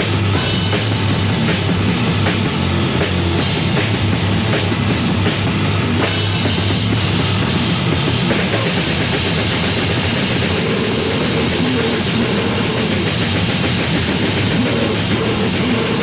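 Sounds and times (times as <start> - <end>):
fast drum hits: 0.0 - 16.0
heavy metal band playing: 0.0 - 16.0.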